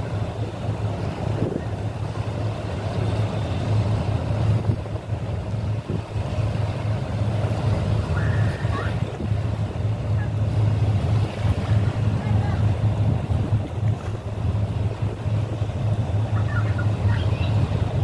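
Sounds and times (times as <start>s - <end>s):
boat engine drone: 0.0s - 18.0s
choppy water: 0.0s - 18.0s.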